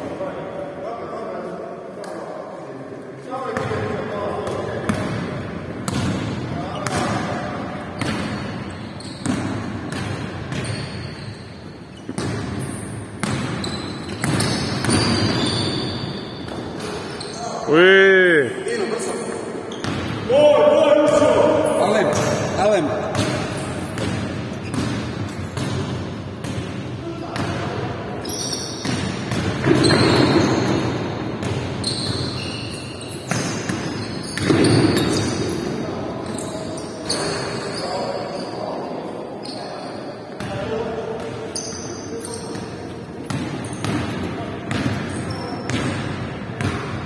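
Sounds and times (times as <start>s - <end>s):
sneakers squeaking on floor: 3.5s - 17.8s, 18.6s - 20.3s, 21.1s - 47.0s.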